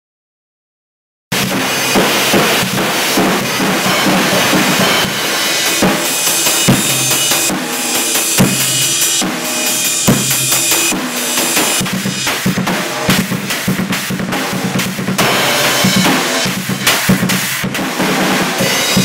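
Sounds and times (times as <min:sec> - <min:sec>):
strong bass drum hits: 0:01.3 - 0:18.0
drum kit groove: 0:01.3 - 0:19.0
cymbal wash: 0:01.4 - 0:19.0.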